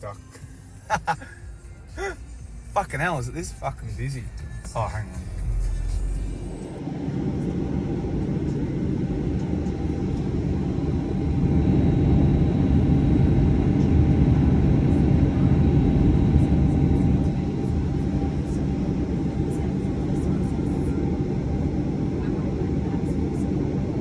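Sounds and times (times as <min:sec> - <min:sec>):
thin high engine whine: 0:00.0 - 0:24.0
jet engine low rumble: 0:02.4 - 0:24.0.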